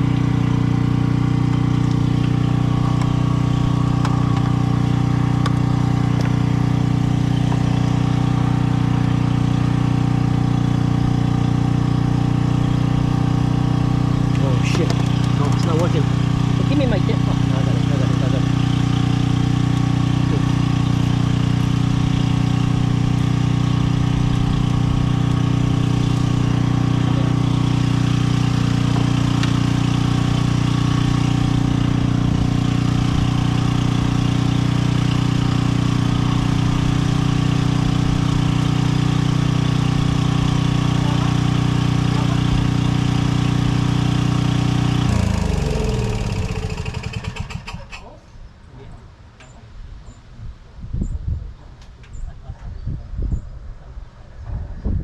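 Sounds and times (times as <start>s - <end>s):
engine winding down: 0.0s - 48.2s.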